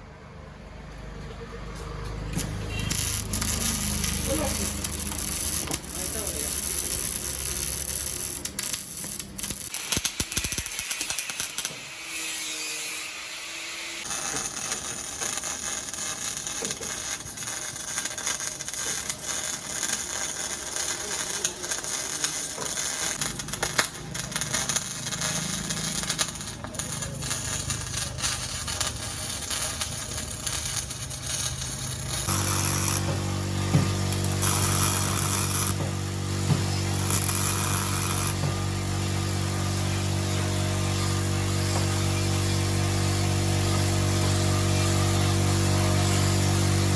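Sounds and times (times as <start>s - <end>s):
welding arc crackling: 2.0s - 46.9s.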